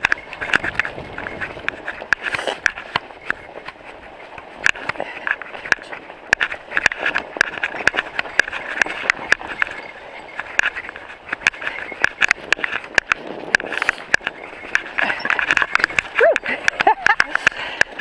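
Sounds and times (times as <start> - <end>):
bike clicks and rattles: 0.0 - 18.0
tyres crunching on snow: 0.0 - 18.0.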